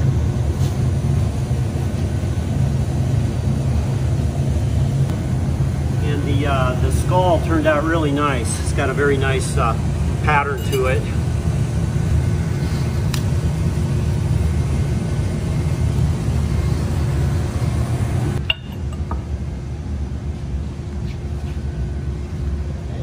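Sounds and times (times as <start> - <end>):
workshop low rumble: 0.0 - 23.0.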